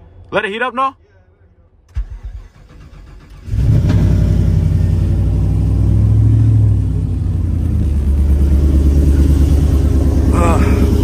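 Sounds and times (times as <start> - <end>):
engine starting and idling: 1.9 - 11.0.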